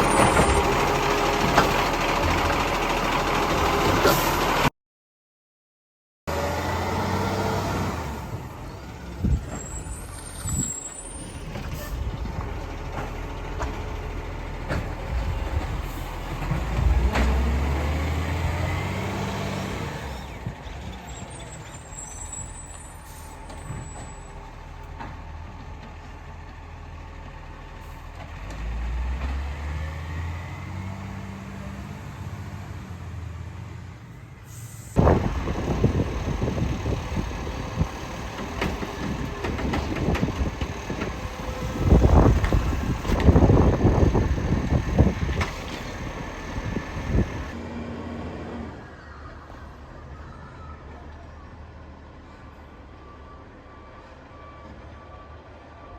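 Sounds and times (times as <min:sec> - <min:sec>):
garbage truck diesel engine: 0:00.0 - 0:04.7, 0:06.3 - 0:55.9.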